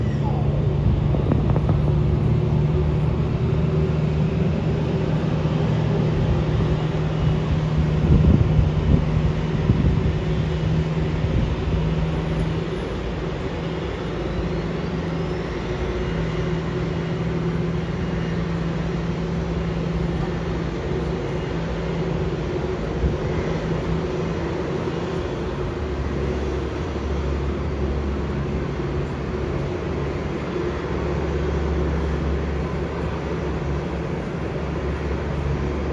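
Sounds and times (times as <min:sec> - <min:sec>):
low engine hum with tones: 0:00.0 - 0:35.9.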